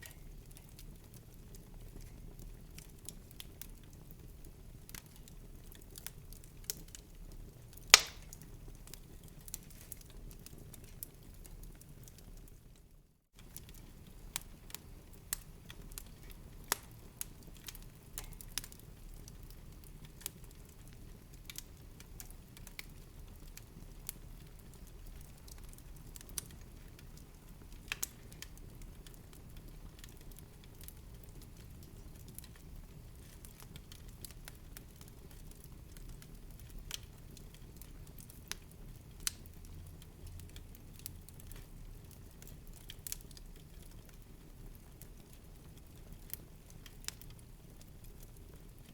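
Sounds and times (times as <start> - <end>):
low rumble of burning: 0.0 - 48.9
wood fire crackling and popping: 0.0 - 48.9.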